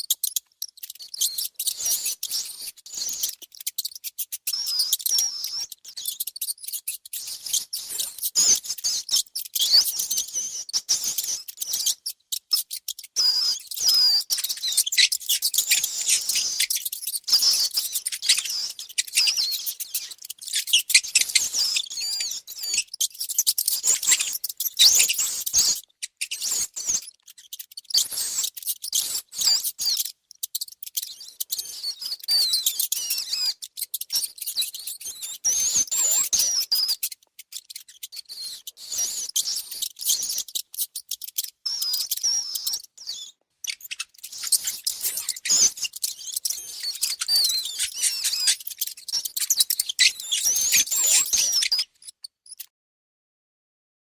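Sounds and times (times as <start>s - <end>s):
mice squeaking: 0.0s - 52.7s
small clicks and scratches: 0.0s - 52.7s.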